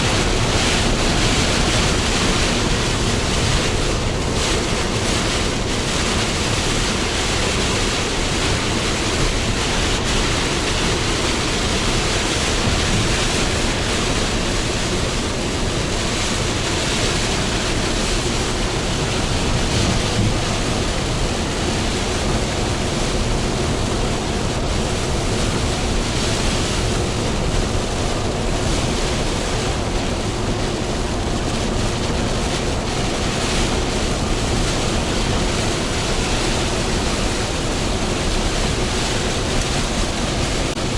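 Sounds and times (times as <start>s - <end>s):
rain hitting truck: 0.0s - 40.9s.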